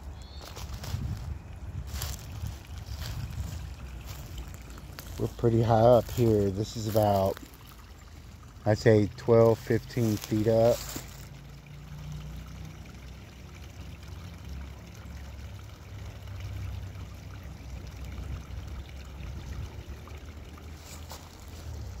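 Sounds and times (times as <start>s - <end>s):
creek water trickling: 0.0s - 22.0s
low uneven rumble: 0.0s - 22.0s.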